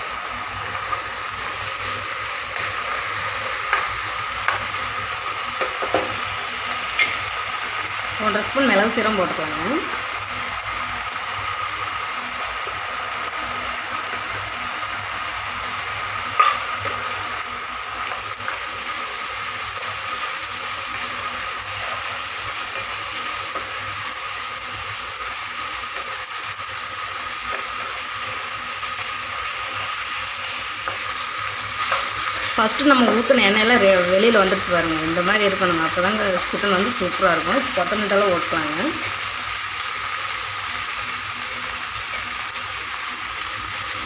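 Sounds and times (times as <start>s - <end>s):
chicken sizzling in a pan: 0.0s - 44.0s.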